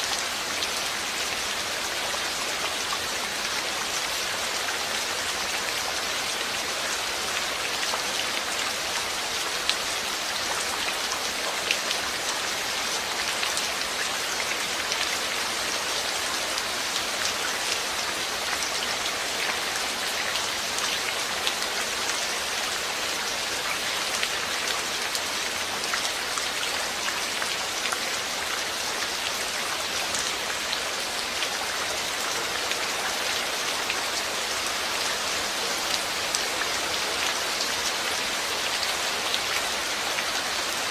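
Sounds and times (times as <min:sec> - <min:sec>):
hiss of rain: 0:00.0 - 0:40.9.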